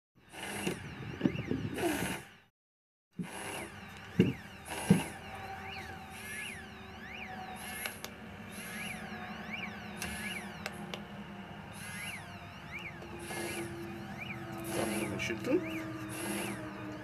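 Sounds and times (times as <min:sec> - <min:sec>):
alarm chirp rising and falling: 0:00.2 - 0:02.5, 0:03.2 - 0:17.0
vibration alarm rattling: 0:00.2 - 0:02.5, 0:03.1 - 0:17.0.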